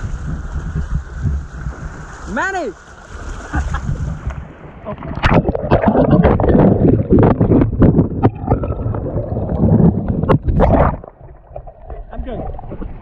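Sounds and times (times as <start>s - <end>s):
creek water churning and gurgling: 0.0s - 13.0s.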